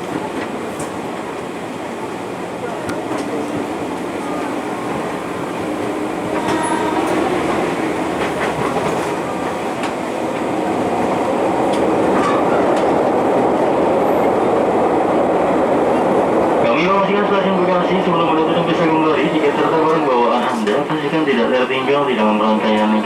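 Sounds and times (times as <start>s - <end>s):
train wheels and motors rumbling: 0.0s - 21.4s.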